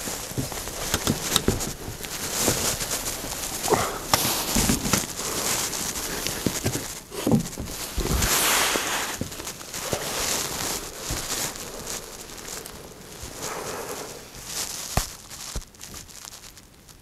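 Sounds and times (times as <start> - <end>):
footsteps crunching through debris: 0.0 - 17.0
small cracks and crinkles: 0.0 - 17.0.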